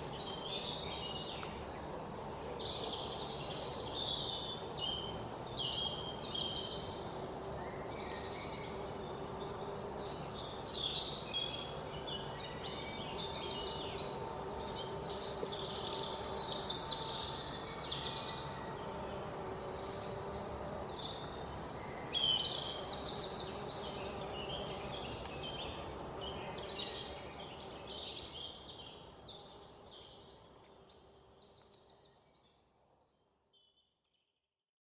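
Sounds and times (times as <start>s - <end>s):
outdoor background noise: 0.0s - 33.6s.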